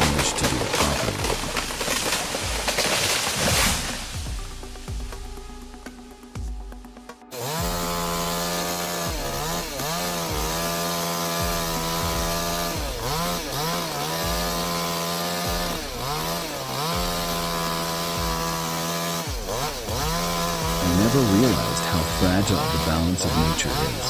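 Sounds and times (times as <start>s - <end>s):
chainsaw cutting wood: 0.0s - 6.4s, 7.0s - 24.0s.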